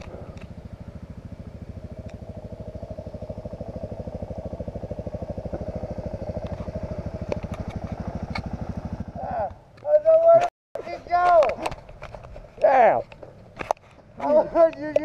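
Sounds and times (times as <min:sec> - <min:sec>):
motorcycle engine running: 0:00.0 - 0:10.5, 0:11.1 - 0:15.0.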